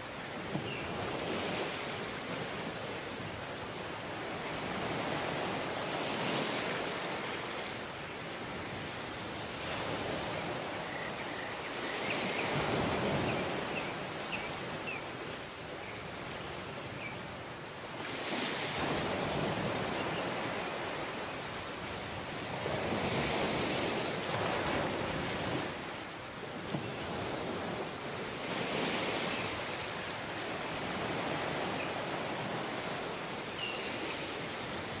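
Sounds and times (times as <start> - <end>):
waves breaking on beach: 0.0 - 35.0.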